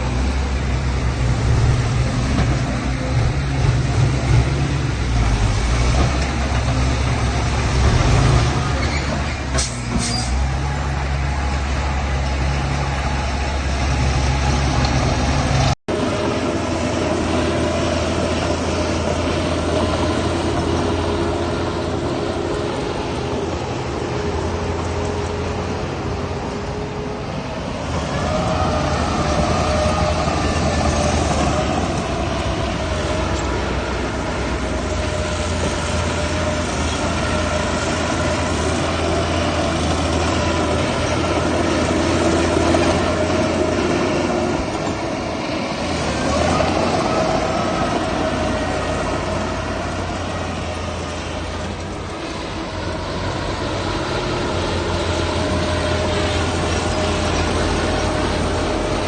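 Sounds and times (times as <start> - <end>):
heavy diesel machinery working: 0.0 - 59.0.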